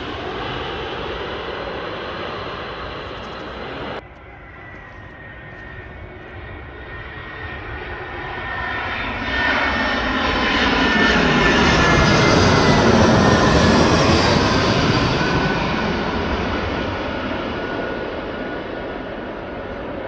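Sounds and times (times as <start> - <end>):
high engine whine: 0.0 - 20.0
jet engine roar: 0.0 - 20.0.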